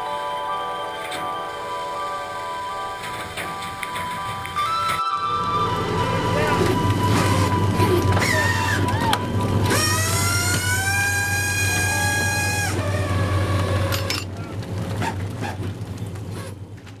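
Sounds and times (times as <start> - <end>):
engine and deck machinery hum: 0.0 - 17.0
machinery whine: 0.0 - 17.0.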